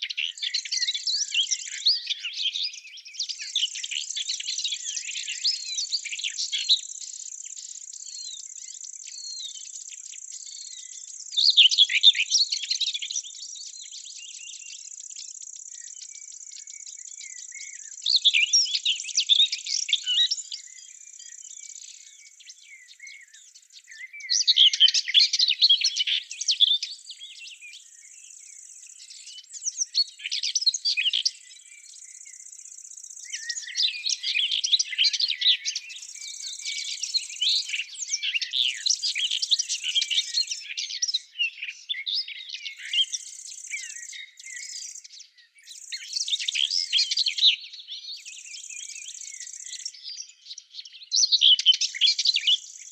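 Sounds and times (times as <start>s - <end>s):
songbirds chirping and twittering: 0.0s - 52.9s.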